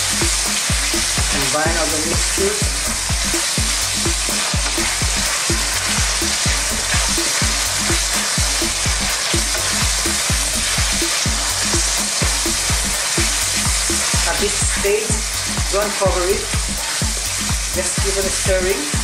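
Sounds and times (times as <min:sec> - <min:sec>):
meat sizzling in a wok: 0:00.0 - 0:19.0.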